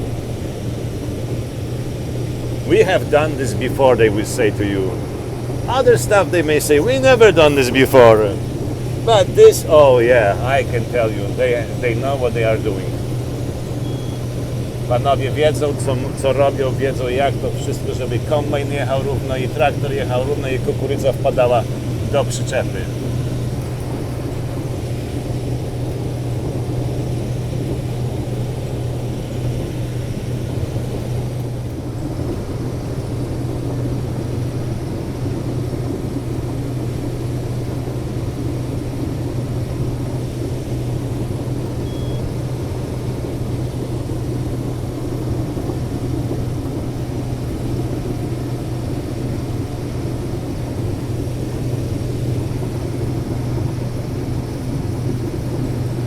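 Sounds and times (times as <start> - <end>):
combine machinery noise: 0.0 - 56.0
diesel engine drone: 0.0 - 56.0.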